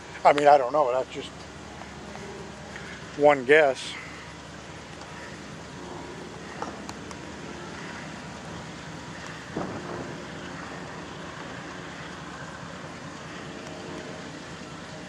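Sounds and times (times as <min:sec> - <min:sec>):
diesel locomotive engine hum: 0:00.0 - 0:15.0.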